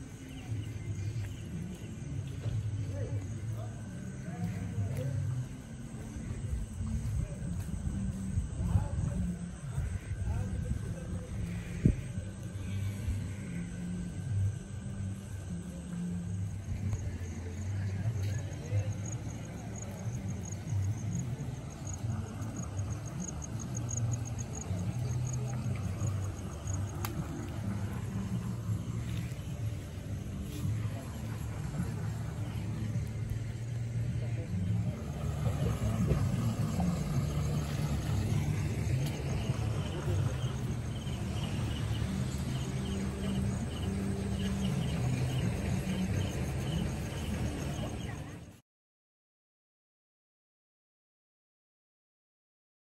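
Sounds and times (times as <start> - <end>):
low steady hum: 0.0 - 48.5
insects chirping: 0.0 - 48.6
vehicle engine rumbling: 0.0 - 48.6.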